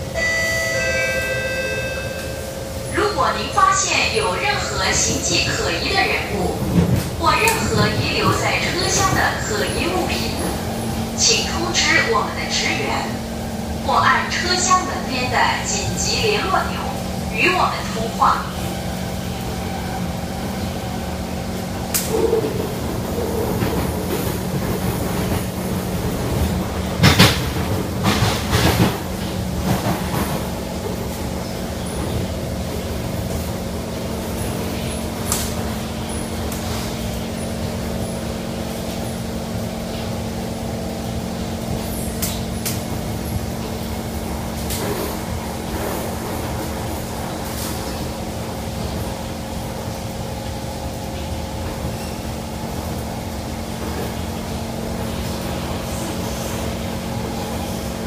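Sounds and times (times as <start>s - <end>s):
train motor hum: 0.0s - 58.0s
train wheels rumbling on rails: 0.0s - 58.0s.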